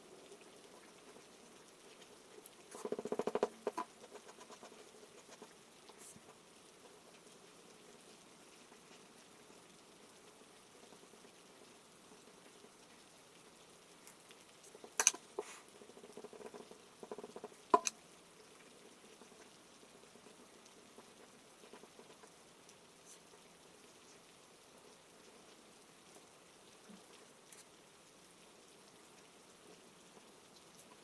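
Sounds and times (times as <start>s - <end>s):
sharp ticks and crackles: 0.0s - 26.4s
soft rain patter: 0.0s - 31.0s.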